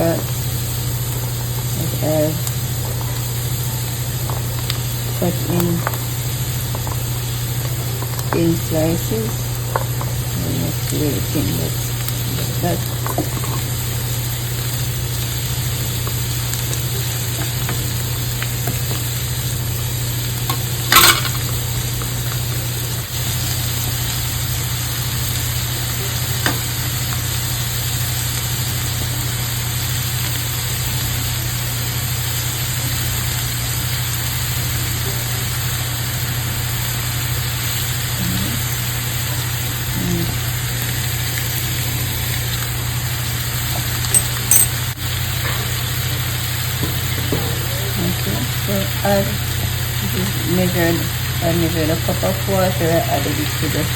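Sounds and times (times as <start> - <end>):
vegetables sizzling in oil: 0.0 - 53.9.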